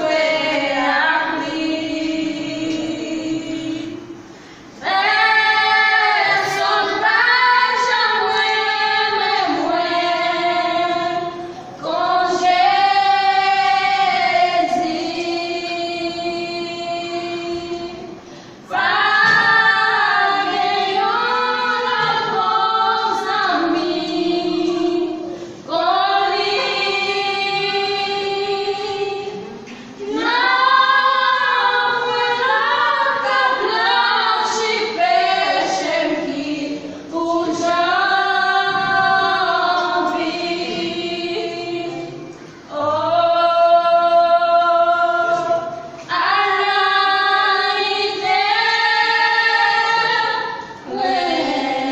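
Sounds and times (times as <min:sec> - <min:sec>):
women singing gospel song: 0:00.0 - 0:51.9.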